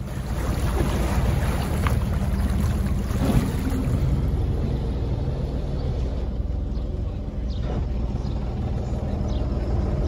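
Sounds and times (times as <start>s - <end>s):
boat diesel engine running: 0.0s - 10.0s
propeller wash churning water: 0.0s - 10.0s.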